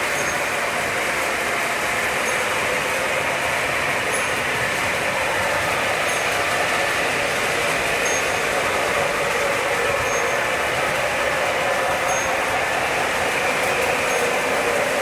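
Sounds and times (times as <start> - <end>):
locomotive motors humming: 0.0 - 15.0
metal wheels rolling on track: 0.0 - 15.0.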